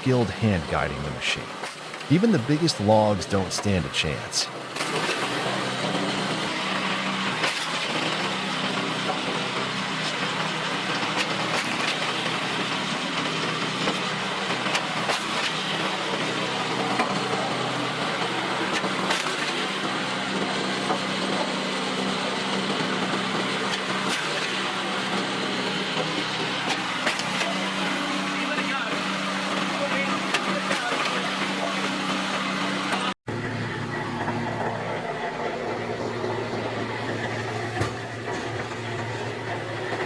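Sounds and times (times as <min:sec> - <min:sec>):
log splitter engine running: 0:00.0 - 0:40.0.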